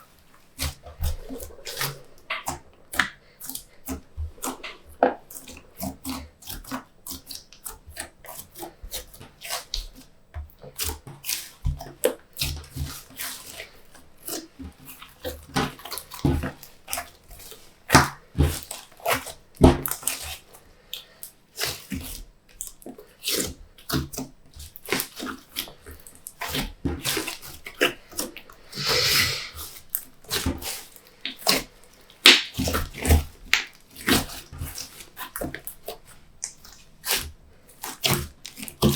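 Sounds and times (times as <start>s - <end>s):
slime squishing by hand: 0.0s - 17.6s, 21.6s - 38.9s.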